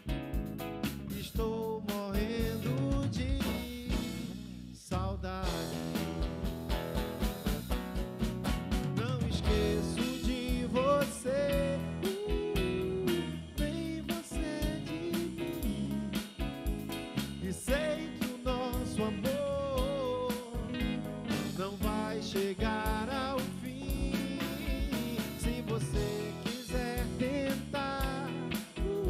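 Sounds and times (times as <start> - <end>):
electric guitars: 0.0 - 4.6, 5.4 - 29.0
drum kit steady beat: 0.0 - 29.0
electric bass: 0.0 - 29.0
lead melody with bent notes: 5.5 - 29.0.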